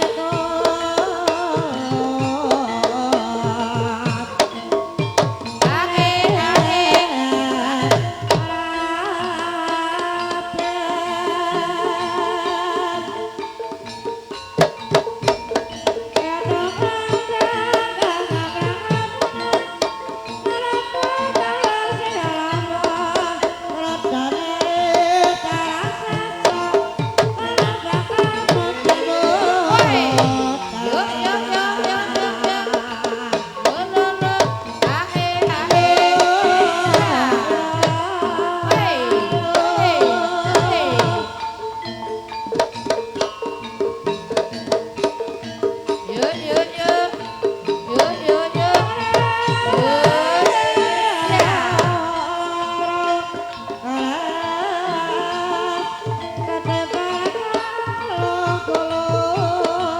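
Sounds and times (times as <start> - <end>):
gamelan ensemble playing: 0.0 - 59.9
hand drums beating: 0.0 - 59.9
sliding wavering melody: 0.0 - 59.9.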